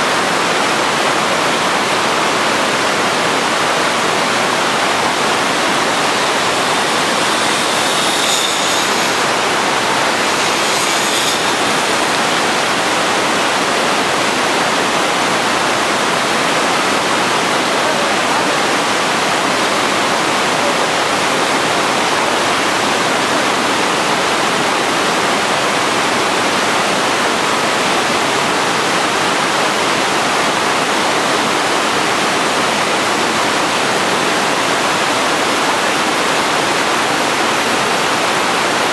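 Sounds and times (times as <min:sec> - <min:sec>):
river rapids rushing: 0:00.1 - 0:38.9.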